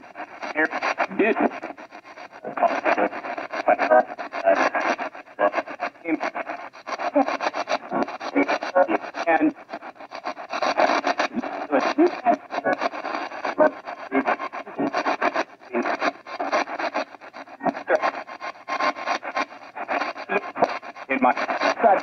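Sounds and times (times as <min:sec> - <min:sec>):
clipped broadcast fragments: 0:00.0 - 0:22.0
radio sweeping through static: 0:00.0 - 0:22.0.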